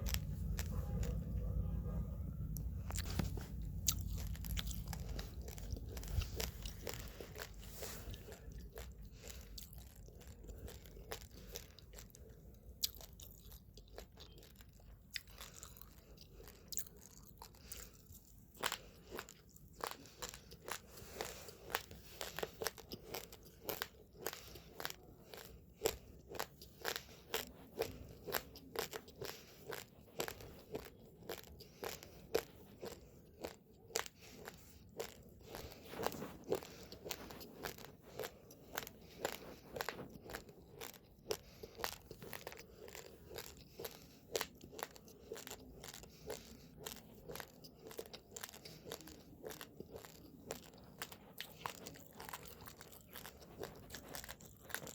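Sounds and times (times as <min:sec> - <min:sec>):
chewing uncooked rice: 0:00.0 - 0:54.9.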